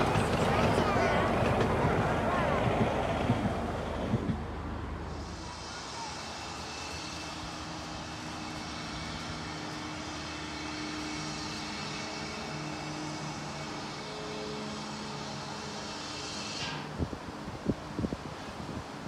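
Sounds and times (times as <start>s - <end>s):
engine drone: 0.0s - 17.6s.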